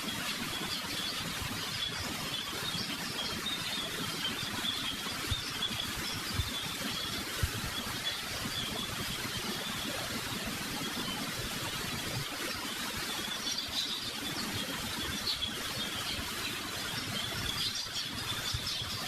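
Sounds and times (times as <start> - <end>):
faint high chirping: 0.1 - 19.0.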